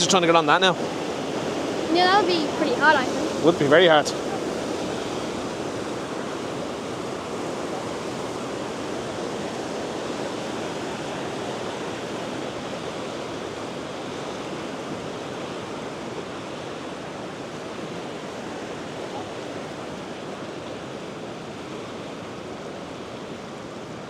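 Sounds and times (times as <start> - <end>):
river rushing over rapids: 0.0 - 24.0.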